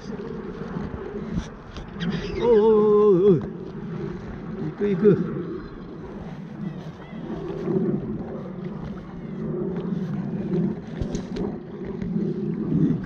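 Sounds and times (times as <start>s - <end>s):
water lapping: 0.0s - 13.0s
wind buffeting microphone: 0.0s - 13.0s.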